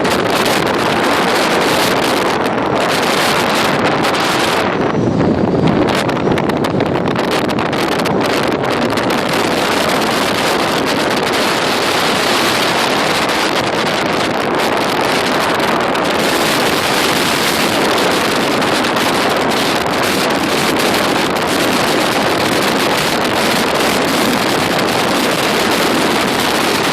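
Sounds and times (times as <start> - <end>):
hurricane wind roaring: 0.0 - 26.9
surf rushing: 0.0 - 26.9.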